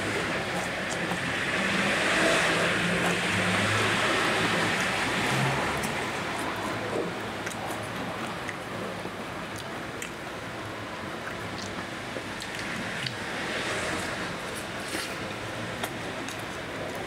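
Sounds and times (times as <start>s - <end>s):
person chewing fried chicken: 0.0s - 4.0s, 4.6s - 10.3s, 11.2s - 17.0s
steady rushing noise: 0.0s - 17.0s.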